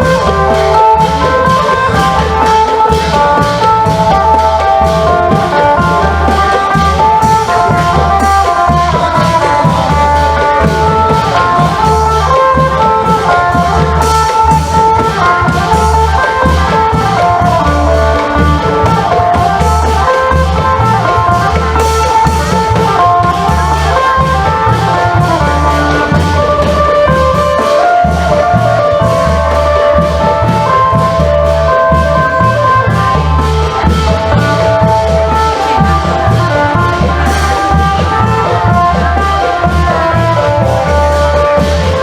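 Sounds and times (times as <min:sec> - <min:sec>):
long drums and percussion: 0:00.0 - 0:42.0.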